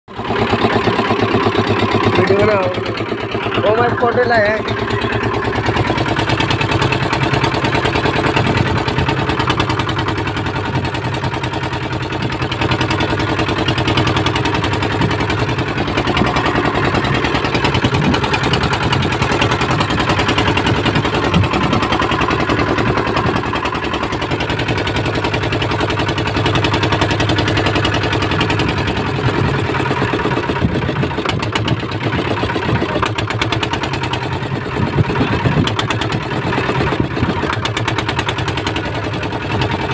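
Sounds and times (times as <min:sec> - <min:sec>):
boat engine running: 0:00.1 - 0:39.9.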